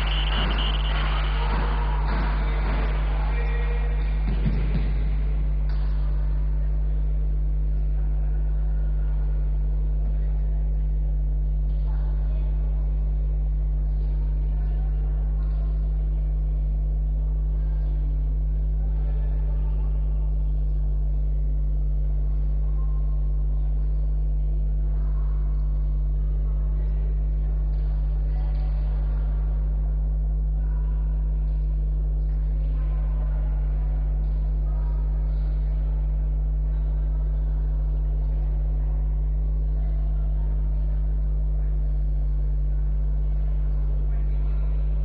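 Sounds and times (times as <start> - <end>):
faint indistinct voices: 0.0 - 45.0
low electrical hum: 0.0 - 45.0.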